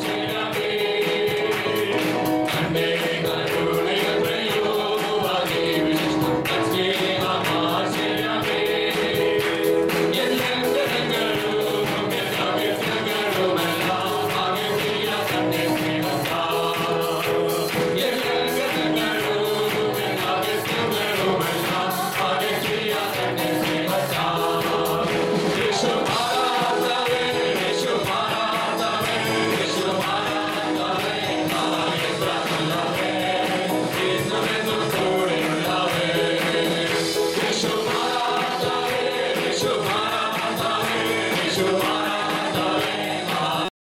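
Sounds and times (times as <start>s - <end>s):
band playing: 0.0s - 43.7s
group singing gospel song: 0.0s - 43.7s.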